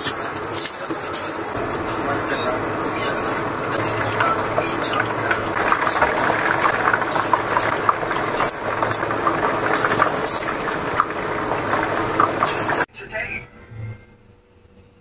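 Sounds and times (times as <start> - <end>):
deep-frying sizzle with pops: 0.0 - 12.9.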